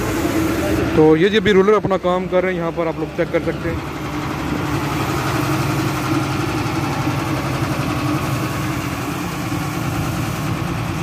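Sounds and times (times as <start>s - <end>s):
road roller diesel engine: 0.0s - 11.0s.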